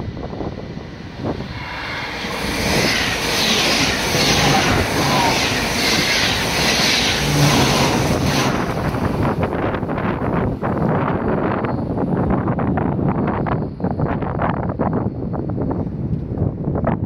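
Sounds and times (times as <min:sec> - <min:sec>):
train passing at speed: 0:00.0 - 0:16.1.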